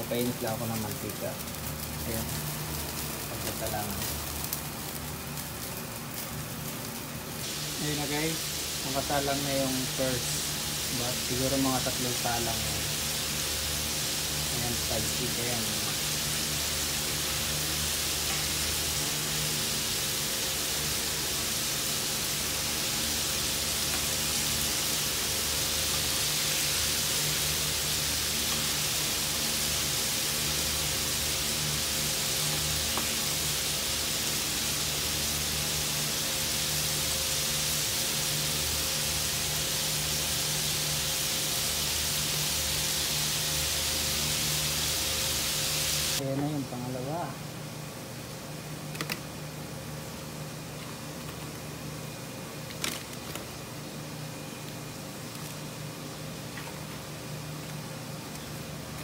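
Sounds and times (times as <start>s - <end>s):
oil sizzling and bubbling: 0.0s - 46.3s, 47.2s - 59.0s.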